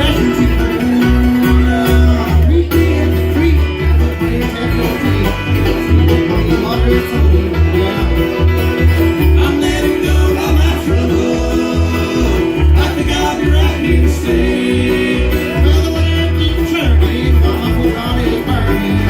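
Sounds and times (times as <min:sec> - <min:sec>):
guitar: 0:00.0 - 0:19.0
picked banjo: 0:00.0 - 0:19.0
steady bass beat: 0:00.0 - 0:19.0.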